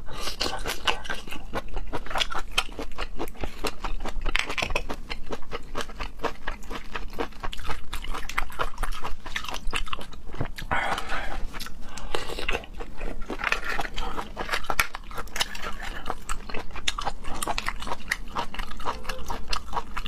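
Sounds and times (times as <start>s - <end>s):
wet chewing of shellfish: 0.0s - 20.0s.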